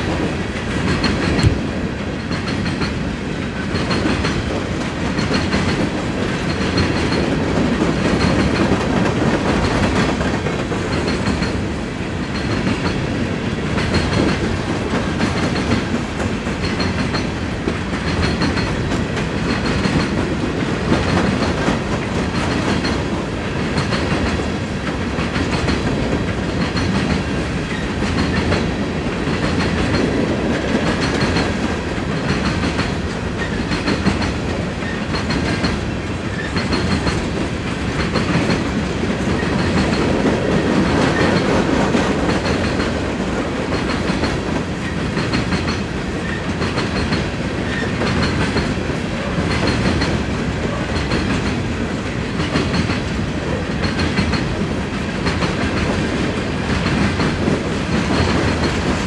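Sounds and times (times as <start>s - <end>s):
freight train wheels rumbling: 0.0s - 59.0s
rhythmic rail clicks: 0.0s - 59.0s.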